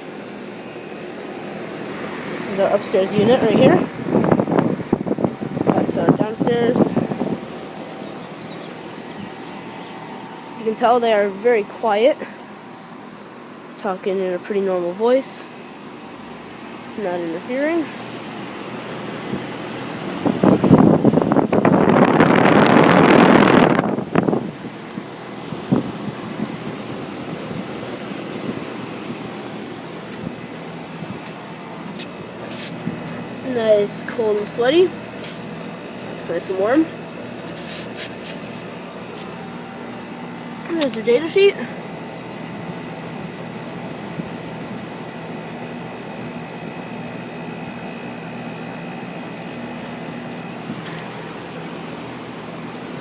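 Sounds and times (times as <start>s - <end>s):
low compressor hum: 0.0s - 53.0s
outdoor fans whooshing: 0.0s - 53.0s.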